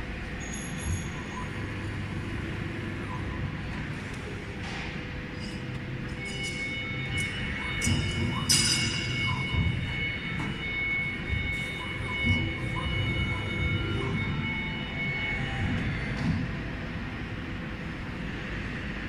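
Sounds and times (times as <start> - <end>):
cnc router whine: 0.0 - 19.0.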